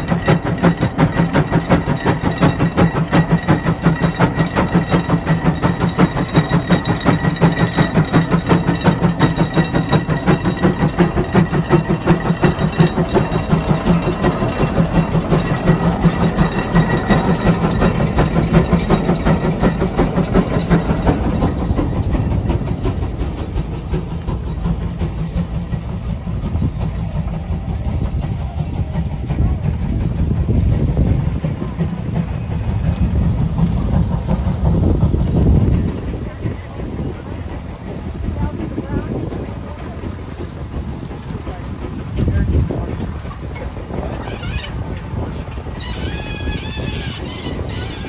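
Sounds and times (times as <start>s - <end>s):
steam engine exhaust chuffing: 0.0s - 48.0s.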